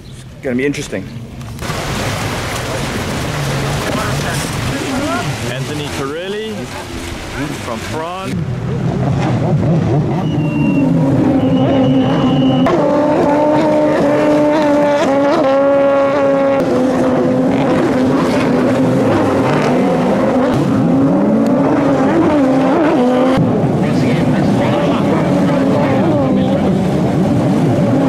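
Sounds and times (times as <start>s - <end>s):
jet ski engines revving: 0.0s - 28.0s.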